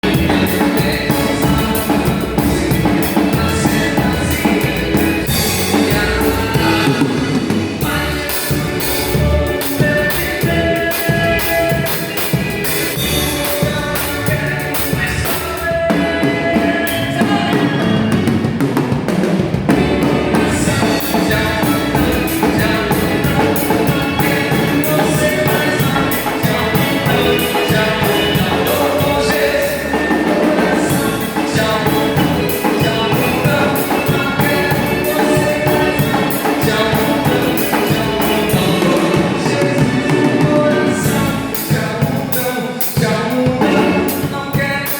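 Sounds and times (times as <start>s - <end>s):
band playing music: 0.0s - 44.9s
drum kit beat: 0.0s - 44.9s.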